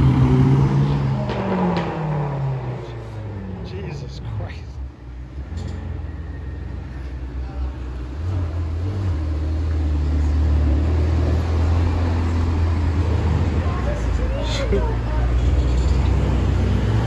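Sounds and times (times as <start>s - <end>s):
car engine rumbling passing by: 0.0s - 17.0s.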